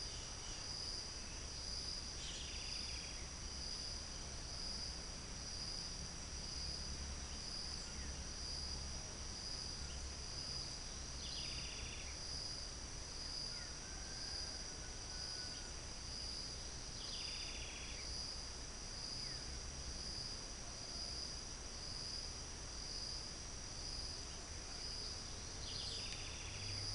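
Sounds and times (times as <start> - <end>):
short high insect calls: 0.0 - 5.0, 9.5 - 26.9
insects chorus pulsing: 0.0 - 26.9.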